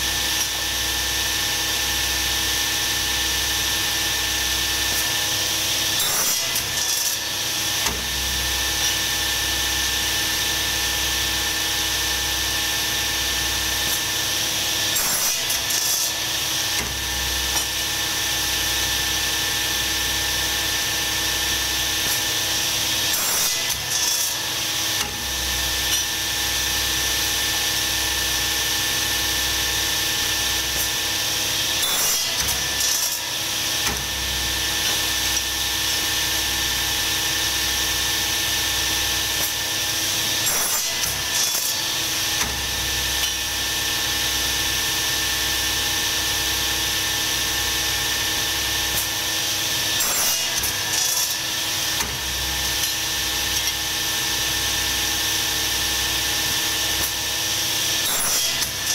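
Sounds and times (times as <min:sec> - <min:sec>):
workshop machine humming: 0:00.0 - 0:58.9.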